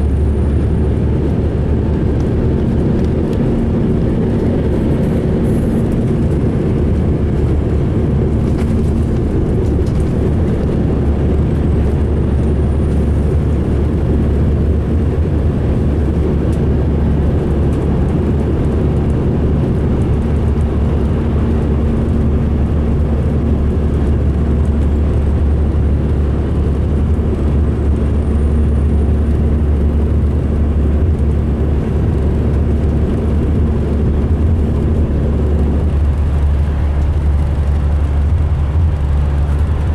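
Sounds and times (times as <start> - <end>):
rough diesel engine drone: 0.0 - 39.9.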